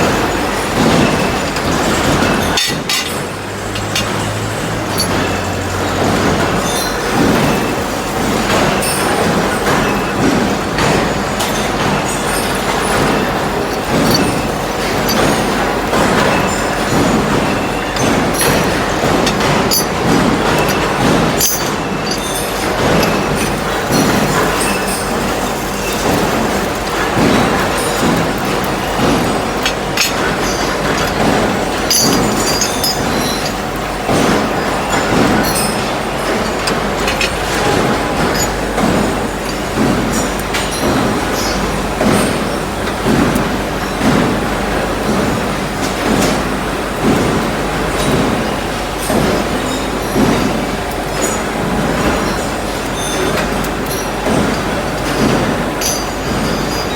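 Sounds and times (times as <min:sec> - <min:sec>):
sharp metallic clinks: 0:00.0 - 0:10.2, 0:10.8 - 0:42.8, 0:47.9 - 0:56.9
drilling machine running: 0:00.0 - 0:56.9.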